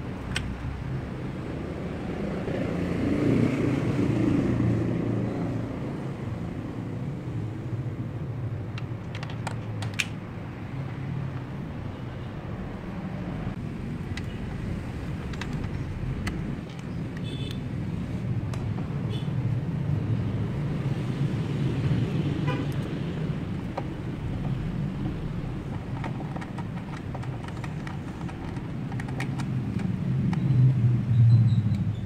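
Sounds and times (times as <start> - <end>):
vehicle hum: 0.0 - 32.0.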